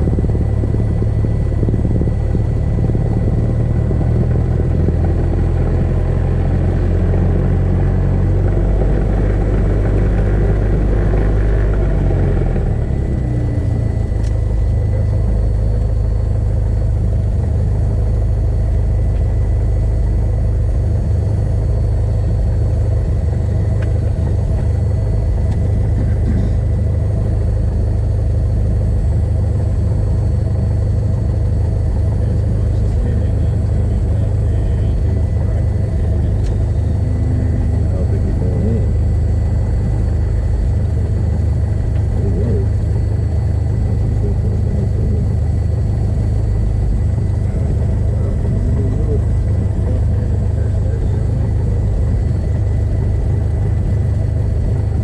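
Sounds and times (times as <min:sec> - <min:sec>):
propeller plane engine rumble: 0:00.0 - 0:55.0.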